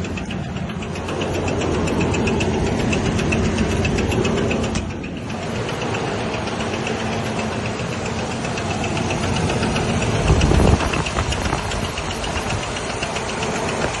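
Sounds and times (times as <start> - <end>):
low rumble: 0.0 - 12.5
engine running with ticking knock: 0.0 - 14.0.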